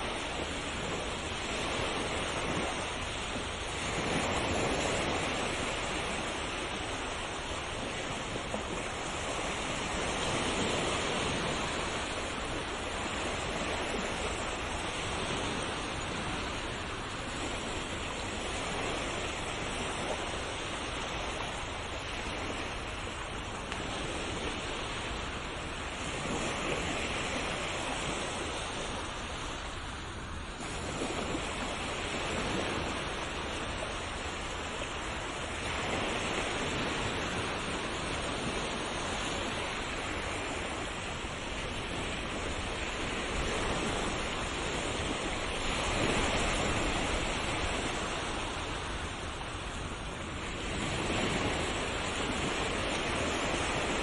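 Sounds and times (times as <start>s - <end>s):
ocean surf on shore: 0.0s - 54.0s.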